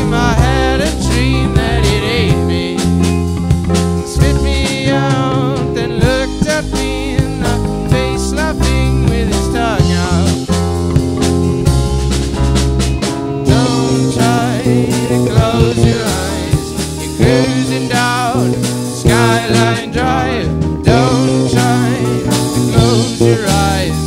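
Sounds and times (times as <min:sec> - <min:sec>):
drum kit: 0:00.0 - 0:24.0
electric bass: 0:00.0 - 0:24.0
electric guitars: 0:00.0 - 0:24.0
keyboard: 0:00.0 - 0:24.0.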